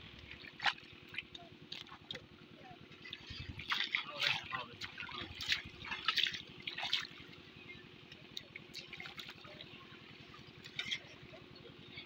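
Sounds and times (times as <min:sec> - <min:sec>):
low rhythmic drone: 0:00.0 - 0:12.0
pond water splashing: 0:00.0 - 0:12.0.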